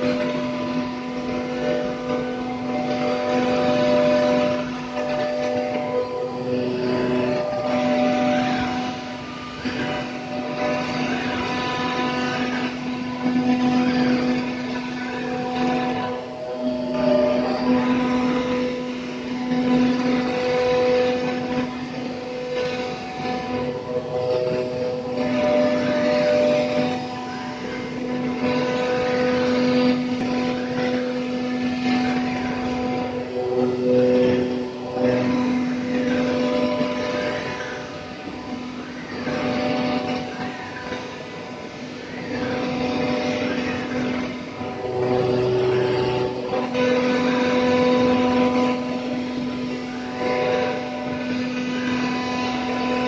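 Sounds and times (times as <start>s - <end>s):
router spindle whining: 0.0s - 53.0s
rushing noise of cutting: 0.0s - 53.0s.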